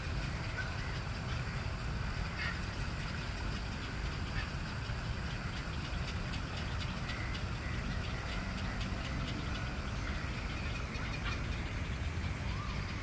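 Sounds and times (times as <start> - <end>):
rapid bird chirps and clicks: 0.0 - 13.0
steady low rumble: 0.0 - 13.0.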